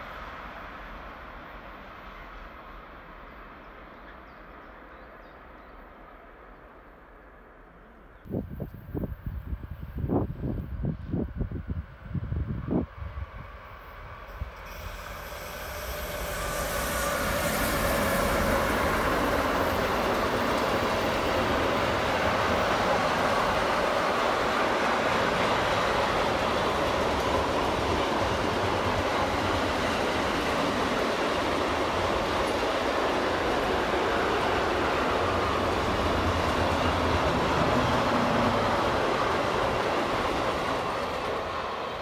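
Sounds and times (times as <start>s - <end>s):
freight train wheels rumbling: 8.3s - 42.0s.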